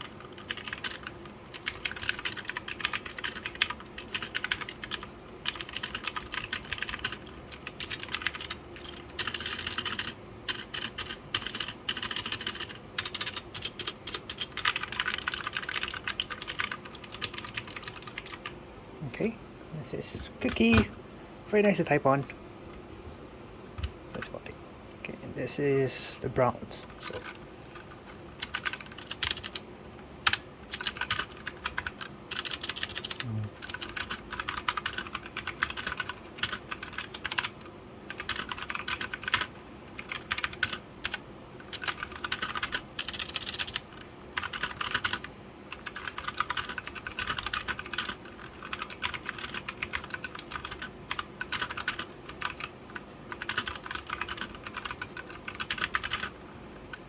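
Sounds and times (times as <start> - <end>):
typing on mechanical keyboard: 0.0 - 18.5, 27.1 - 29.6, 30.2 - 57.0.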